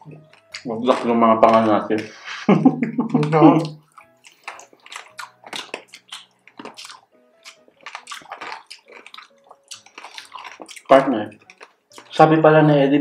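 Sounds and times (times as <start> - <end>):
crunchy chewing: 0.0 - 2.3, 3.1 - 12.1
faint music: 0.0 - 13.0.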